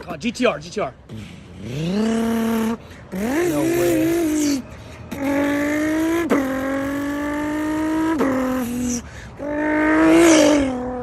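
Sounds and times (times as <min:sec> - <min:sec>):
person imitating car engine: 0:01.0 - 0:11.0.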